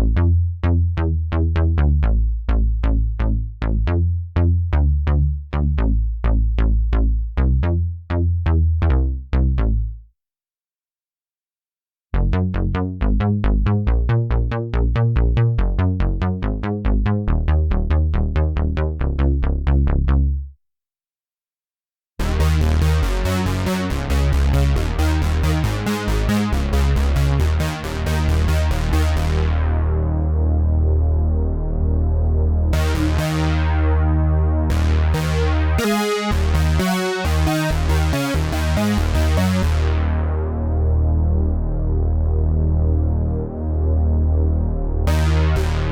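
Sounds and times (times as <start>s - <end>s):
synthesizer bass notes: 0.0s - 10.0s, 12.2s - 20.4s, 22.2s - 45.9s.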